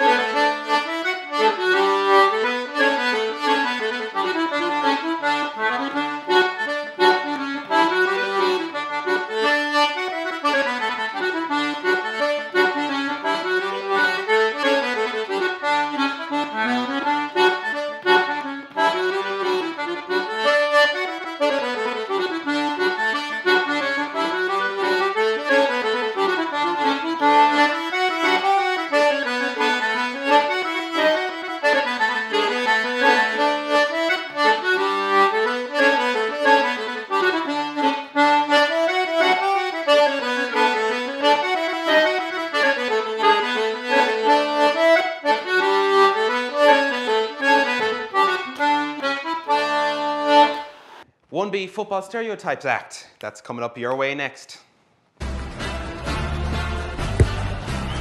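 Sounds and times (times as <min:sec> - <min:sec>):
button accordion melody: 0:00.0 - 0:51.1.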